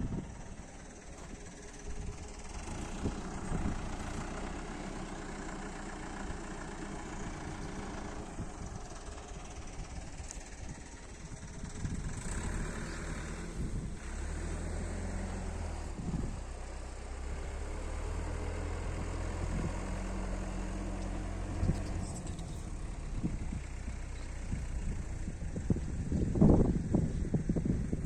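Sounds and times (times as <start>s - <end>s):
engine humming steadily: 0.0s - 28.0s.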